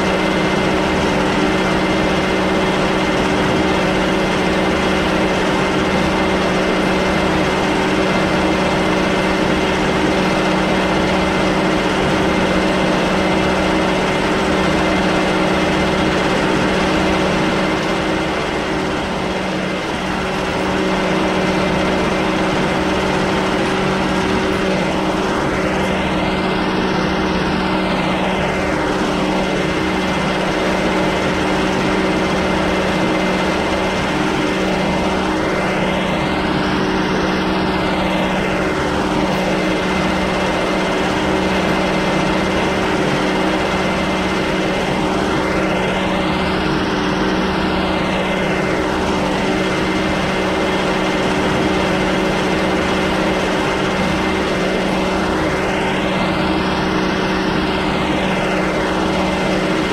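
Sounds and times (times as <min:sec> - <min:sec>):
metalworking machine humming: 0:00.0 - 0:59.9.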